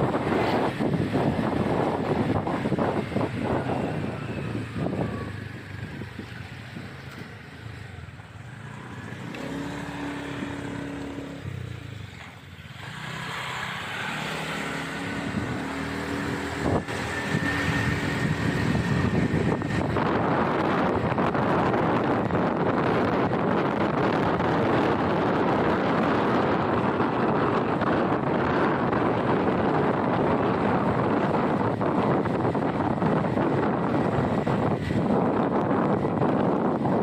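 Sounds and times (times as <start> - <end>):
motorbike engine hum: 0.0 - 37.0
wind rushing over microphone: 0.0 - 37.0.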